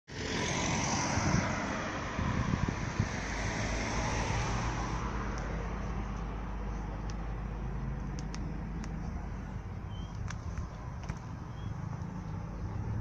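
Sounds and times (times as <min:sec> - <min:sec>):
passing cars rushing: 0:00.1 - 0:13.0.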